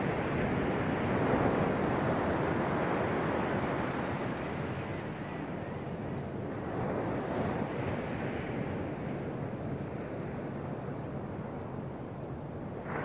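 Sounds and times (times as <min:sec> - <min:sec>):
small waves breaking on beach: 0:00.0 - 0:11.6, 0:12.7 - 0:13.0.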